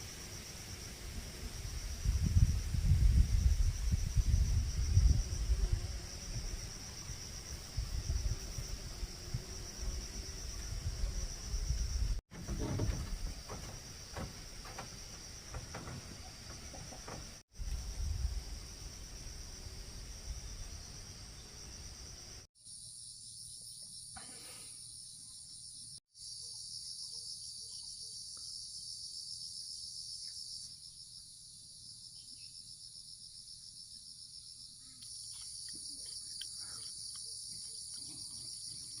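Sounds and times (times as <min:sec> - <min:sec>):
high-pitched insect chorus trilling: 0:00.0 - 0:39.0.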